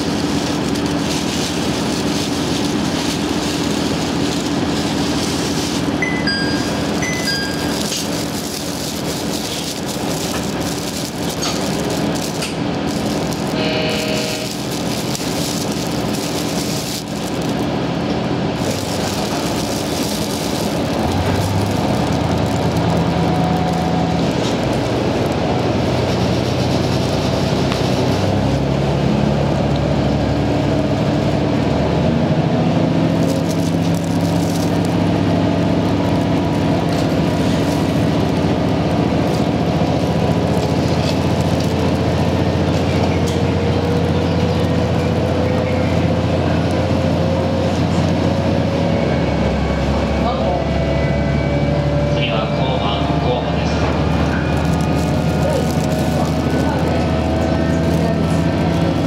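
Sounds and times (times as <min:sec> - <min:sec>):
railcar diesel engine: 0:00.0 - 0:59.0.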